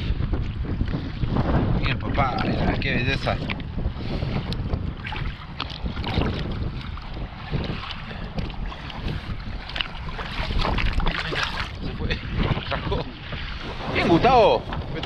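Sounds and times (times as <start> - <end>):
lake water splashing and lapping: 0.0 - 15.0
wind rumbling on microphone: 0.0 - 15.0.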